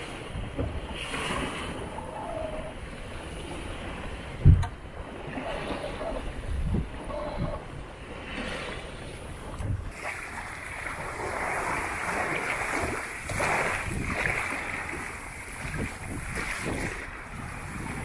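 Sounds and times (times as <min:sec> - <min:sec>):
water rushing along a hull: 0:00.0 - 0:18.0
wind buffeting microphone: 0:00.0 - 0:18.0.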